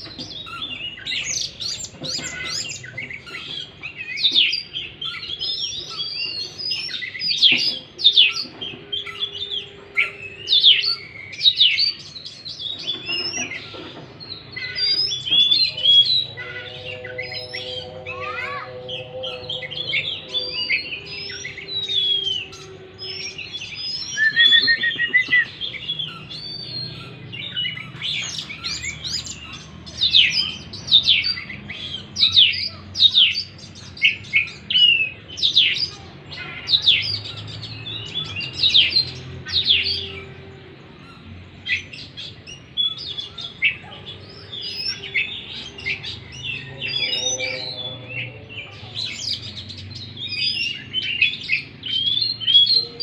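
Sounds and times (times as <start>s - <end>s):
magpie-robin singing: 0.0s - 53.0s.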